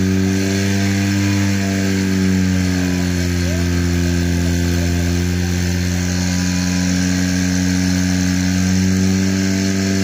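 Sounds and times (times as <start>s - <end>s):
pump engine running at high revs: 0.0s - 10.0s.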